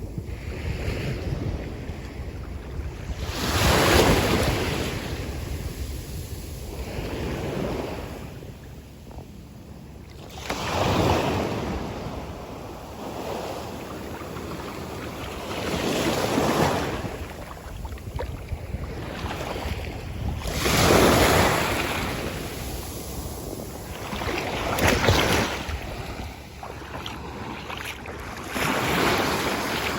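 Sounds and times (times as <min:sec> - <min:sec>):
ocean waves breaking on beach: 0:00.0 - 0:08.6, 0:10.2 - 0:29.9.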